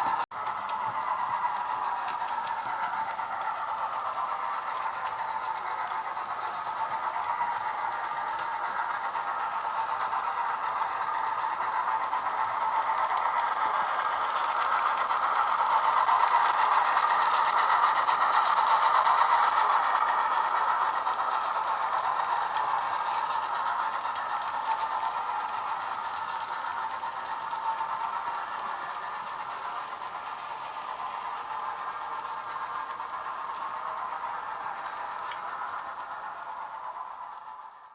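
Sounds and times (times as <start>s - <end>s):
model train steam sounds from speaker: 0.0s - 37.9s.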